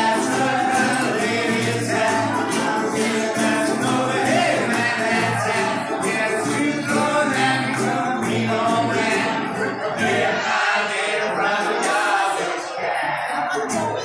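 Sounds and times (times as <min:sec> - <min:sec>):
guitar: 0:00.0 - 0:14.0
strummed ukuleles: 0:00.0 - 0:14.0
voices singing together: 0:00.0 - 0:14.0.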